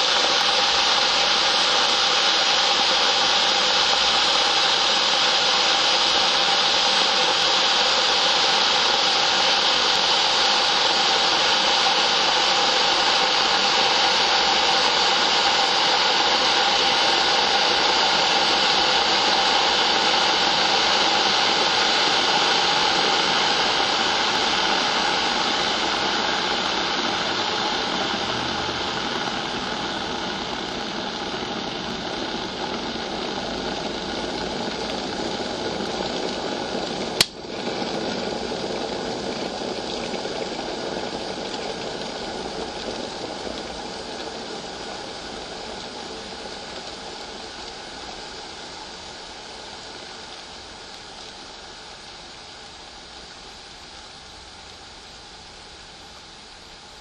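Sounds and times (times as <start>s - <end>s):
kettle boiling hiss: 0.0s - 57.0s.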